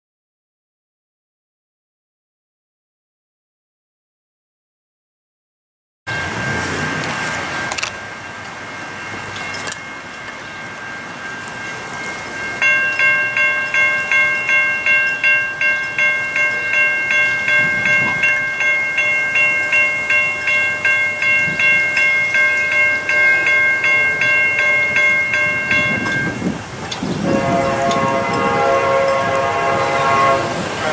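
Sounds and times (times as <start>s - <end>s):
railroad crossing bells ringing: 6.1s - 30.9s.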